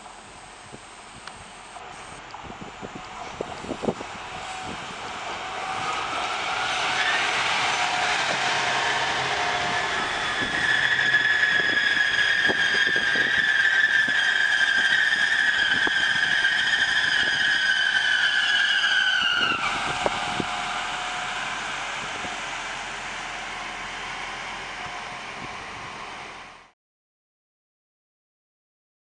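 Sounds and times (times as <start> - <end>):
train passing noise: 1.6 - 26.7
train wheels squealing on rails: 3.2 - 26.6.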